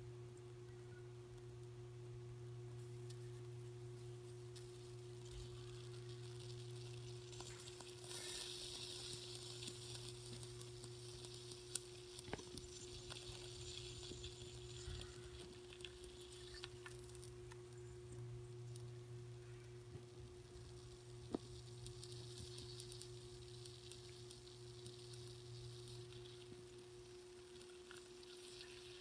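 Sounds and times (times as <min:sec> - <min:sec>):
metal sizzling and crackling: 0:00.0 - 0:29.0.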